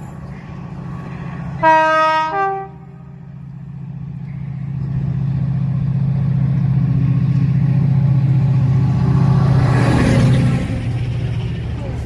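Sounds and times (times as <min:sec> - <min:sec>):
diesel locomotive engine drone: 0:00.0 - 0:12.0
wheels rushing on rails: 0:00.0 - 0:12.0.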